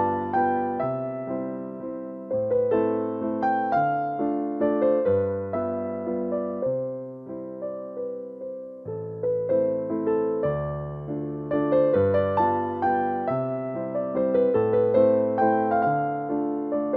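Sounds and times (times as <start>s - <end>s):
gentle piano melody: 0.0s - 16.9s.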